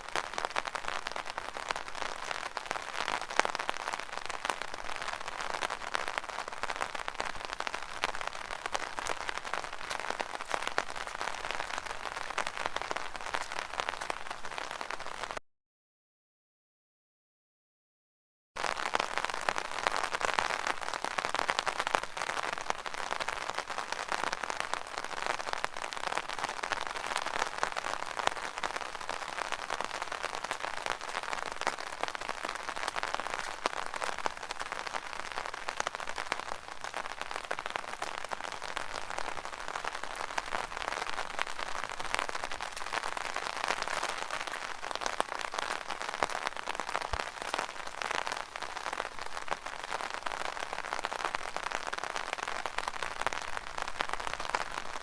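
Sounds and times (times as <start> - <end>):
rain on an umbrella: 0.0 - 15.4, 18.6 - 55.0.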